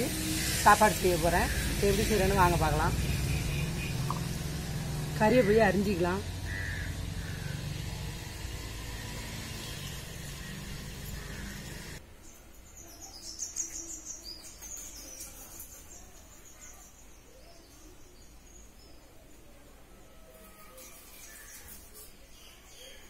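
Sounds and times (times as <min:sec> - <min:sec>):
birds chirping: 0:00.0 - 0:19.1.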